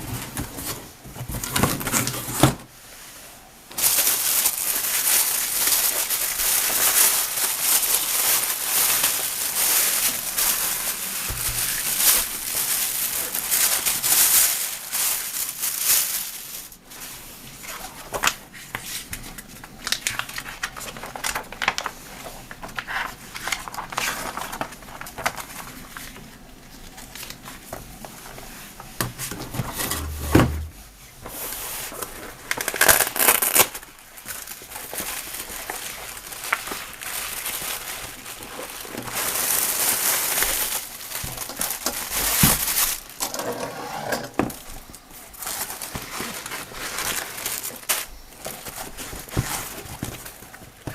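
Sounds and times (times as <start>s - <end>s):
packaging crinkling and rustling: 0.0s - 2.7s, 3.7s - 50.9s.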